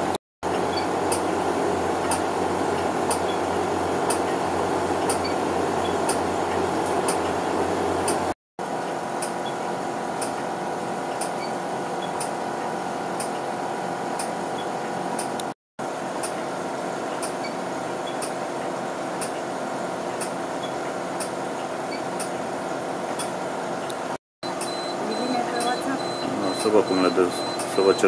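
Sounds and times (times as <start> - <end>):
air conditioner: 0.0 - 28.0
equipment pumps and fans humming: 0.0 - 28.0.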